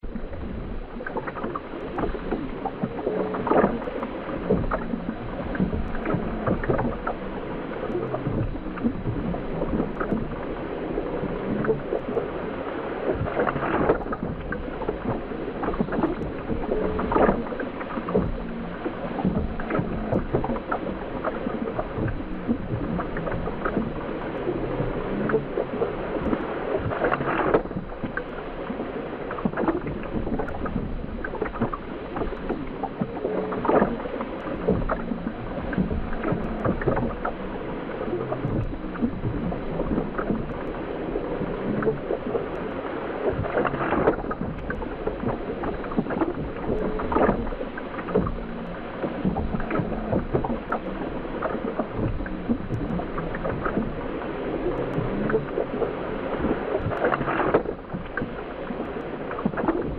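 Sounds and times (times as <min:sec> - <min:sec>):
bubbly clicks and crackles: 0:00.0 - 0:59.9
muffled underwater water noise: 0:00.0 - 0:59.9.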